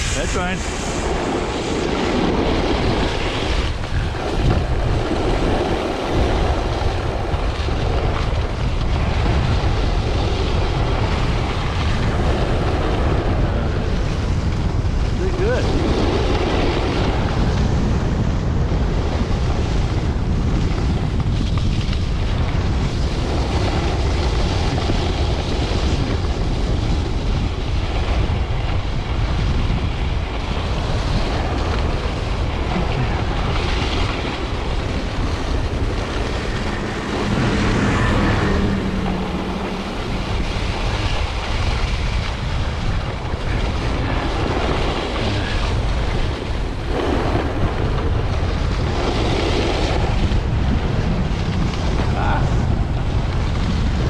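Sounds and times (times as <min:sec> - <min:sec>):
skis sliding on snow: 0:00.0 - 0:18.1, 0:18.8 - 0:54.0
wind buffeting microphone: 0:00.0 - 0:54.0.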